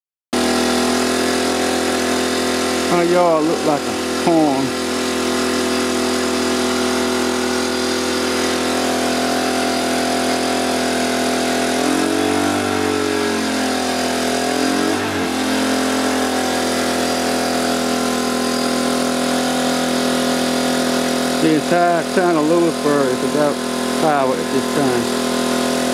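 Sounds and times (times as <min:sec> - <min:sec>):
generator running: 0:00.3 - 0:25.9.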